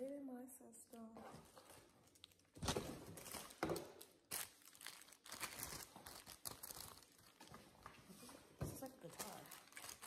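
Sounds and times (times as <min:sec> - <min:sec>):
plastic wrap crinkling: 0:01.4 - 0:10.0.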